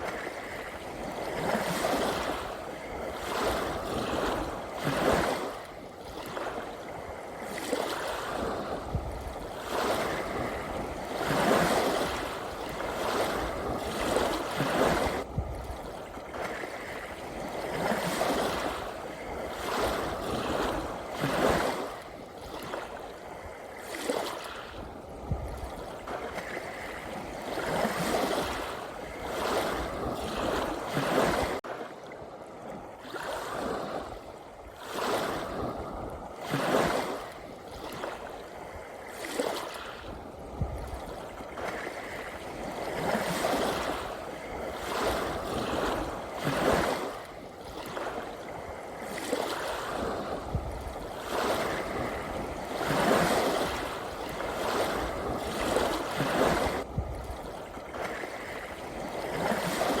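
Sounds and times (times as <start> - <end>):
ocean waves washing in: 0.0 - 60.0.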